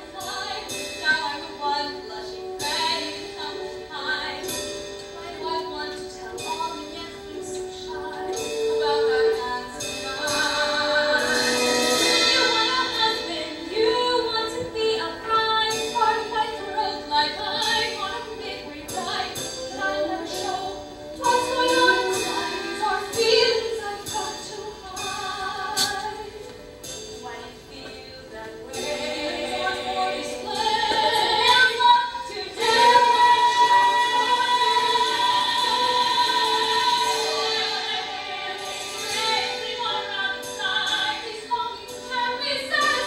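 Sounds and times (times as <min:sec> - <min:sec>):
musical accompaniment: 0:00.0 - 0:43.0
women singing slow melody: 0:00.0 - 0:43.0.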